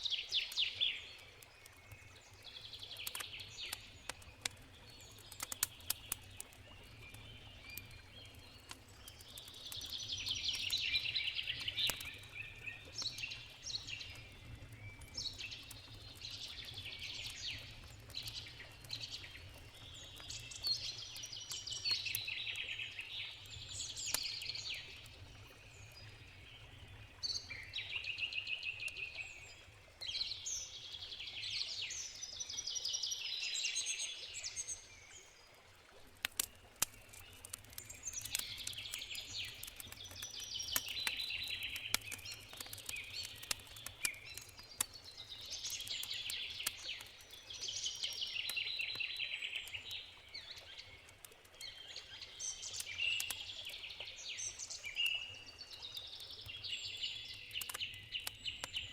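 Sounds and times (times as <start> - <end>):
campfire crackling and popping: 0.0 - 28.0, 35.6 - 58.9
songbirds singing: 0.0 - 35.6, 36.3 - 58.9.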